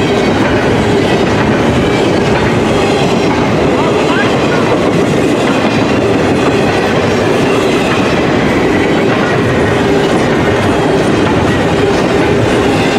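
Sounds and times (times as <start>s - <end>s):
freight train wheels on rails: 0.0s - 12.9s.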